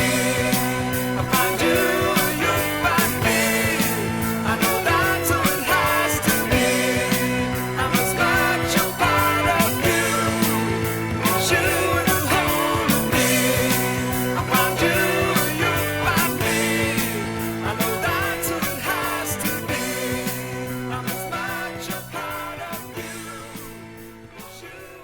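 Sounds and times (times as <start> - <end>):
rock band music from vinyl: 0.0 - 25.0.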